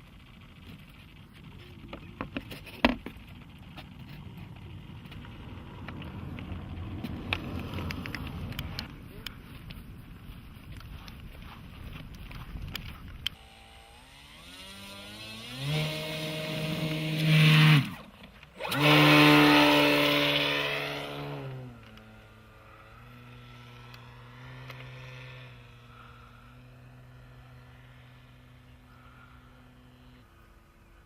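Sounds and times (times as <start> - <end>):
model plane motor and propeller: 0.0 - 31.0.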